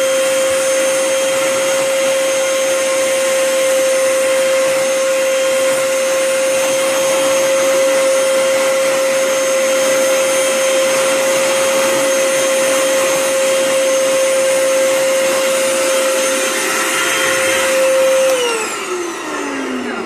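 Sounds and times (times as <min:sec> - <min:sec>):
vacuum cleaner motor running: 0:00.0 - 0:20.0.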